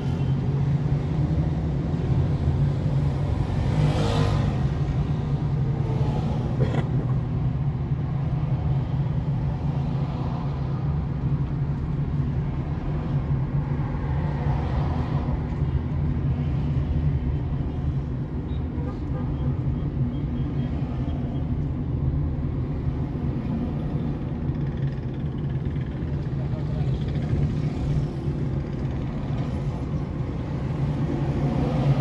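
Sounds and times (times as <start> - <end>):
car engine and road drone: 0.0 - 32.0.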